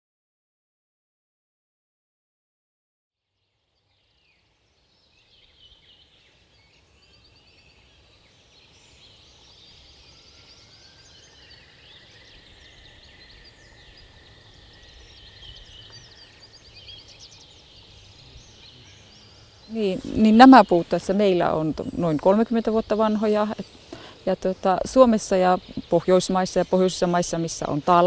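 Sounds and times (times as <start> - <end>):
songbirds chirping and trilling: 3.5 - 28.0.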